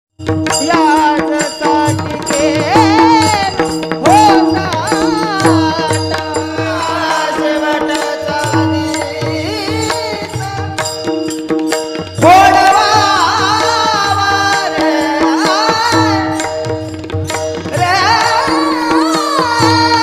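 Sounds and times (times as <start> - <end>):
man singing devotional melody: 0.2 - 20.0.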